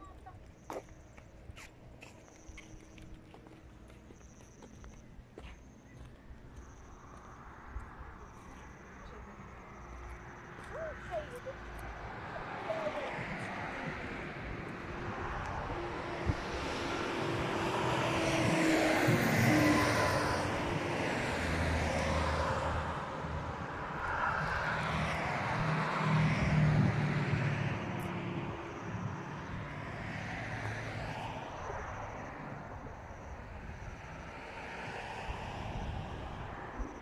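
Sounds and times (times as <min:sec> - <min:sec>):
vehicles passing on road: 0:00.0 - 0:37.0.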